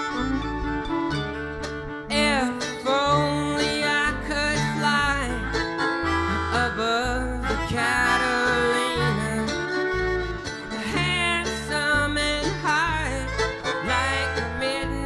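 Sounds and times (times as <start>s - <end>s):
banjo: 0.0s - 15.0s
fiddle with sliding notes: 0.0s - 15.0s
strummed guitar: 0.0s - 15.0s
walking bass: 0.0s - 15.0s.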